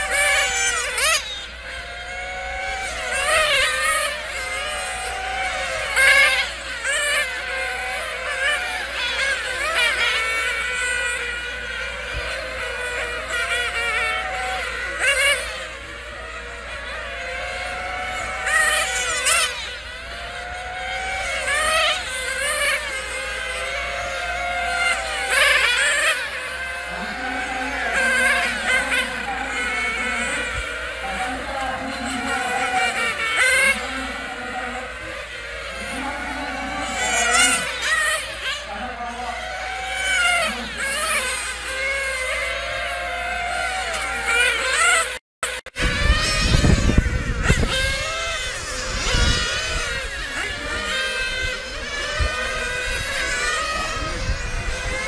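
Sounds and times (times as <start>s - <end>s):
rc car engines buzzing: 0.0s - 55.0s.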